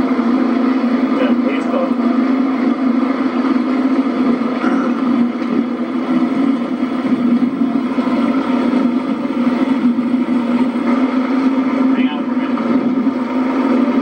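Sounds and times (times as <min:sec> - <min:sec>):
motorboat engine droning: 0:00.0 - 0:14.0.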